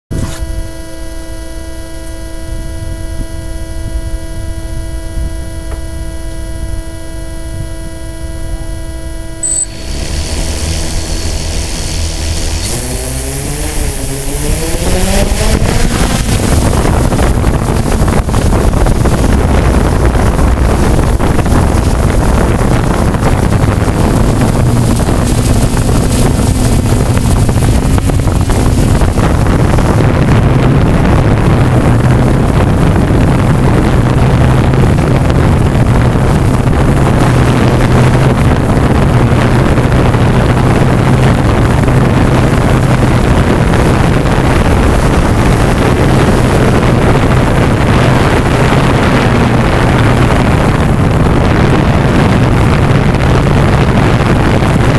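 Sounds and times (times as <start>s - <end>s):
drone motors whining and buzzing: 0.1s - 54.9s.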